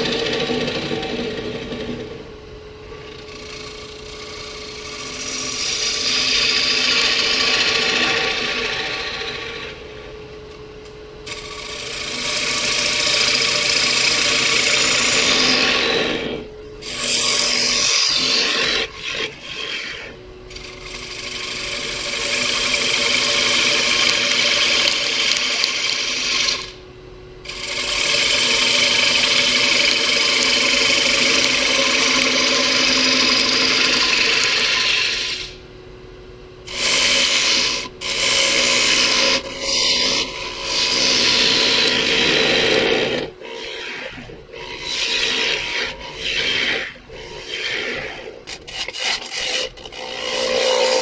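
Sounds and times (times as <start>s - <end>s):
lathe hum: 0.0s - 51.0s
gouge scraping wood: 3.0s - 9.8s, 11.3s - 26.8s, 27.5s - 35.6s, 36.7s - 51.0s.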